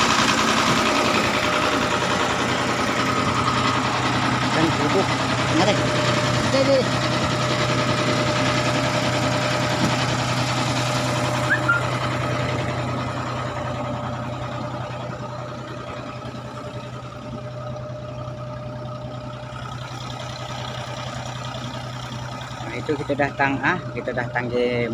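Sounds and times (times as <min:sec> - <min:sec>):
boat engine humming: 0:00.0 - 0:24.9.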